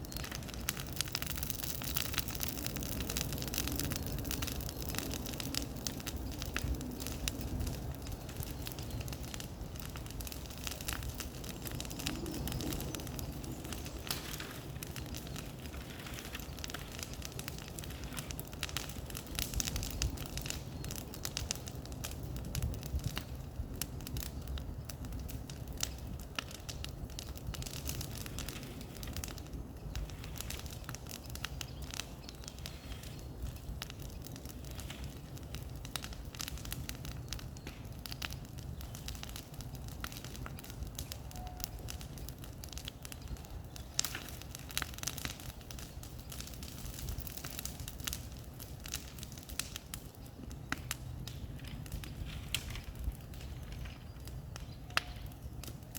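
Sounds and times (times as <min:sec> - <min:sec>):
bonfire crackling and popping: 0:00.0 - 0:55.9
low rumble of fire: 0:00.0 - 0:55.9.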